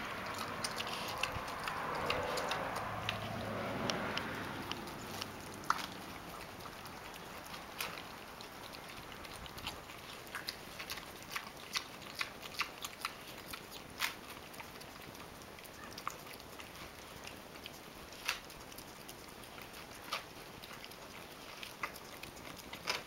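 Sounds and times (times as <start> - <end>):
pig chewing vegetables: 0.0 - 23.0.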